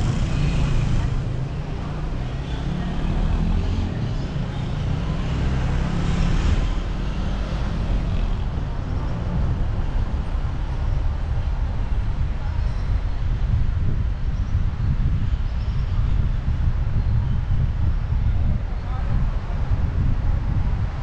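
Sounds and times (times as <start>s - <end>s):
road vehicle rumble: 0.0s - 21.0s
traffic noise: 0.0s - 21.0s.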